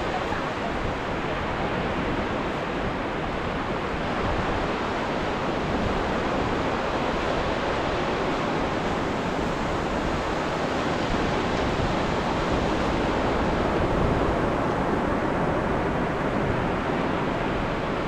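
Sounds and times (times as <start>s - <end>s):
ocean surf washing ashore: 0.0s - 18.0s.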